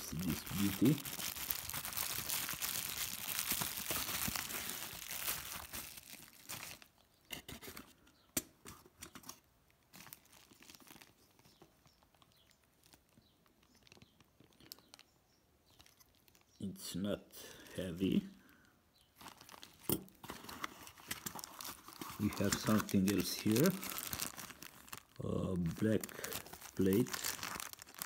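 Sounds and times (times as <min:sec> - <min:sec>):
bubble wrap crinkling: 0:00.0 - 0:07.8, 0:09.0 - 0:16.6, 0:17.8 - 0:28.0.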